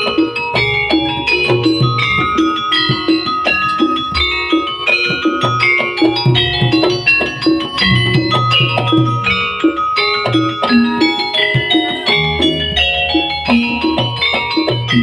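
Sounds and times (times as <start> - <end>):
ringing pitched percussion notes: 0.0 - 15.0.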